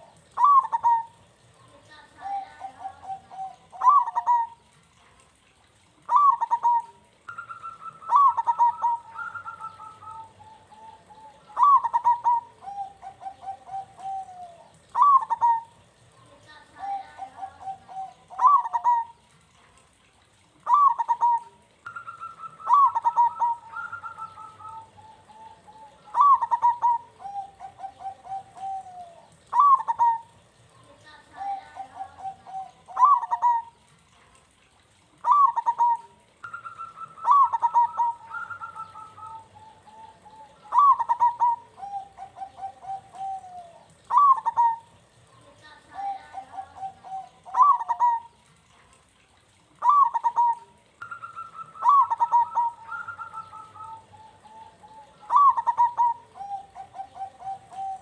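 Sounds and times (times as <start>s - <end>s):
dove cooing: 0.0s - 5.0s, 5.7s - 33.9s, 35.0s - 58.0s.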